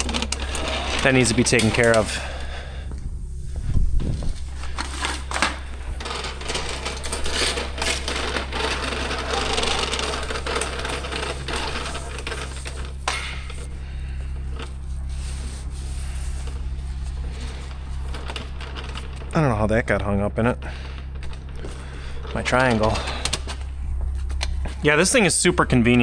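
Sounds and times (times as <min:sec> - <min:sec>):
hose rubbing and rattling: 0:00.0 - 0:26.0
low machine hum: 0:00.0 - 0:26.0.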